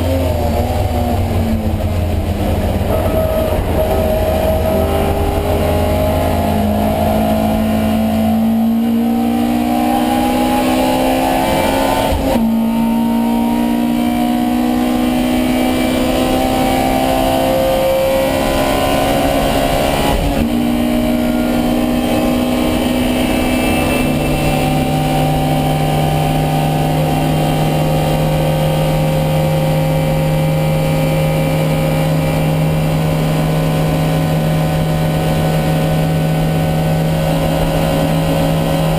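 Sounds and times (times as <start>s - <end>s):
racing car engine accelerating: 0.0s - 38.9s.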